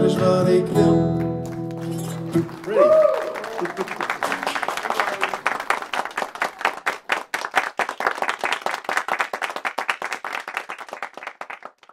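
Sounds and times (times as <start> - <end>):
small crowd applauding: 1.2 - 11.9.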